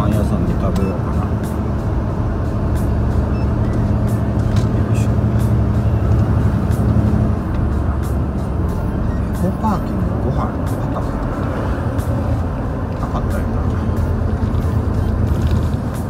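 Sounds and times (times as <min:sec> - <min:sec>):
road noise: 0:00.0 - 0:16.0
truck diesel engine under load: 0:00.0 - 0:16.0.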